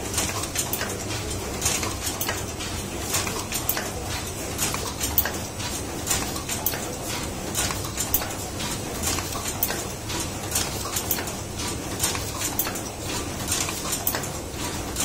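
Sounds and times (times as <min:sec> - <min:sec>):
machine presses clacking: 0:00.0 - 0:15.0
steady mechanical hum: 0:00.0 - 0:15.0.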